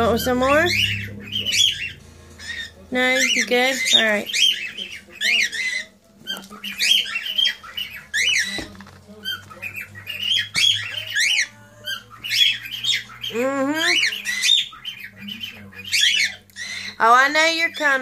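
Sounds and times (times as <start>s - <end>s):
cockatiels chirping: 0.0s - 18.0s.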